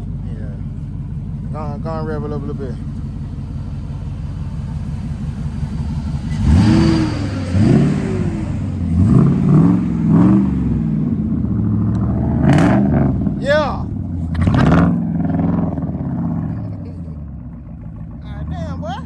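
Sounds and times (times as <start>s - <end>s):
truck engine idling and revving: 0.0s - 19.0s.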